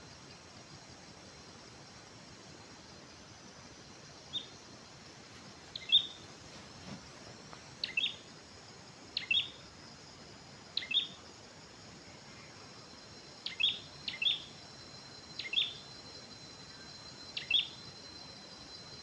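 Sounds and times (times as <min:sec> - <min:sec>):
faint background hiss: 0:00.0 - 0:19.0.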